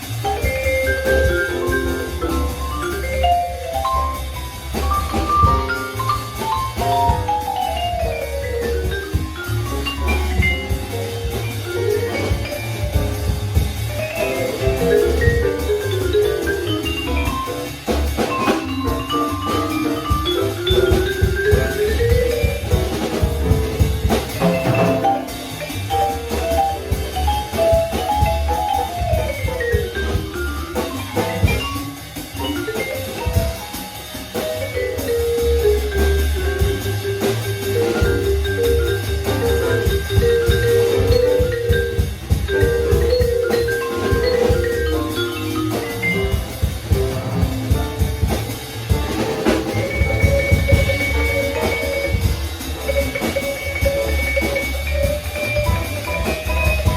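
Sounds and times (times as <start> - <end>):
bass: 0.0 - 56.9
drum kit: 0.0 - 56.9
vibraphone runs: 0.0 - 56.9.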